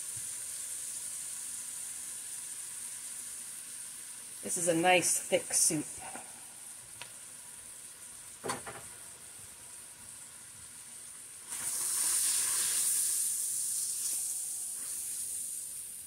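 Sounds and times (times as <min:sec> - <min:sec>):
vegetables sizzling in a pot: 0:00.0 - 0:16.0.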